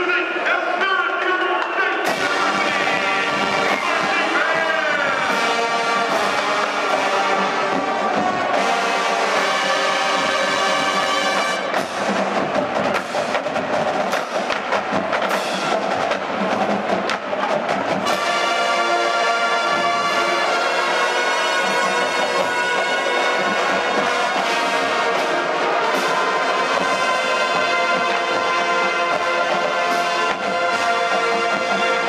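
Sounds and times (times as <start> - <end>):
marching band playing: 0.0 - 32.0.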